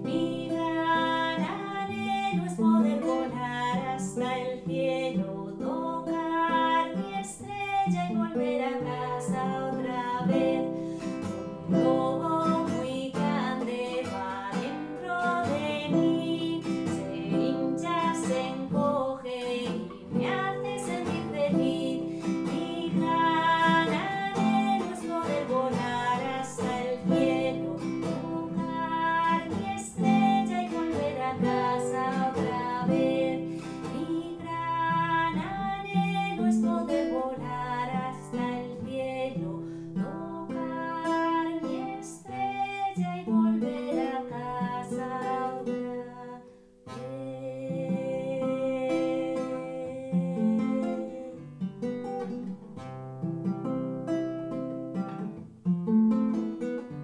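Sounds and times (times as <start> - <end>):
classical guitar chords: 0.0 - 57.0.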